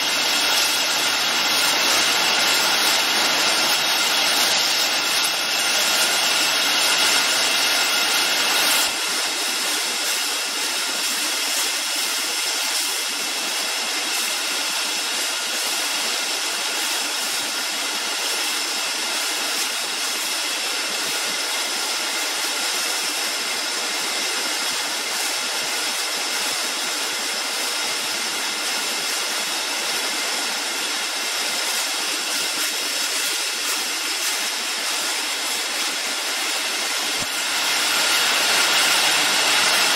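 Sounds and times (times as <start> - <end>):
can production line machinery: 0.0 - 39.9.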